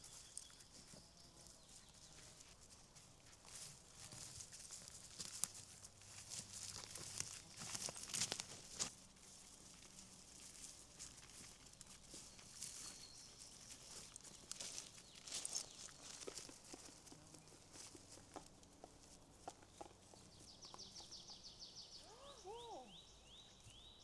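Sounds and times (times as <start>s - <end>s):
crackling forest ground litter: 0.0s - 24.0s.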